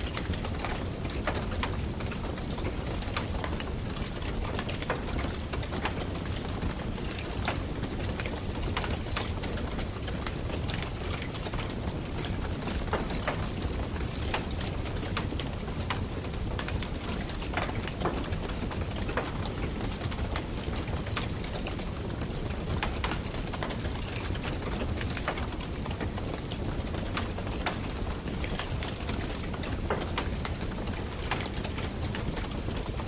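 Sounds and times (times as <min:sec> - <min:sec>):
fire crackling and popping: 0:00.1 - 0:33.0.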